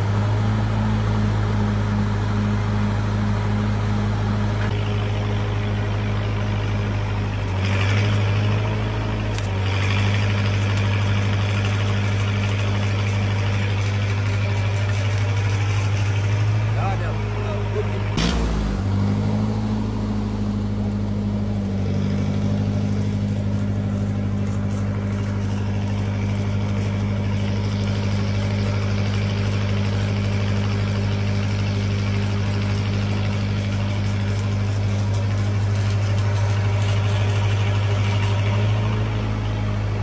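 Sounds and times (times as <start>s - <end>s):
welder engine running steadily: 0.0s - 40.0s.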